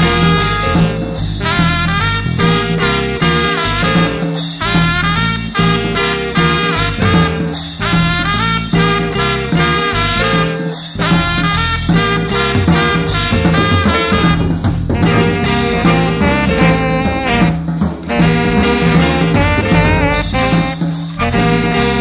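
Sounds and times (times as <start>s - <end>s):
swing band music: 0.0s - 22.0s.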